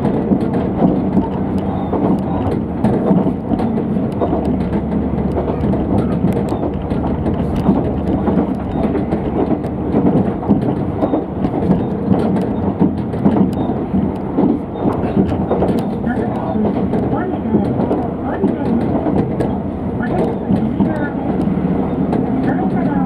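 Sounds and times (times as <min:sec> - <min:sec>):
sharp clicks: 0:00.0 - 0:22.8
diesel railcar engine drone: 0:00.0 - 0:23.0
wheels rumbling on rails: 0:00.0 - 0:23.0.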